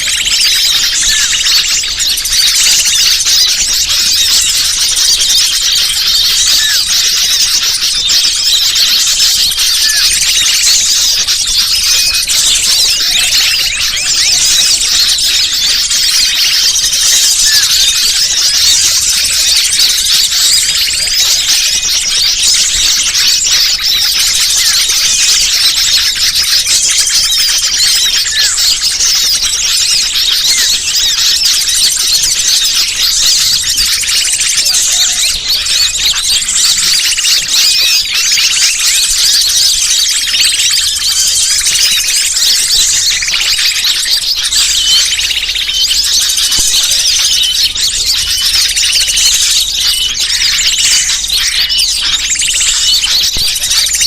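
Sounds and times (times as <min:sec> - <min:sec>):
small birds chirping chorus: 0:00.0 - 0:54.0.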